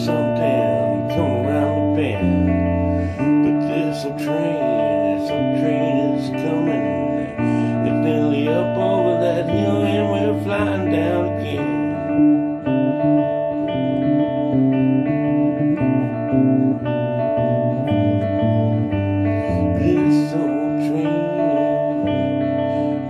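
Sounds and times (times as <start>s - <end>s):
guitars playing chords: 0.0s - 23.0s.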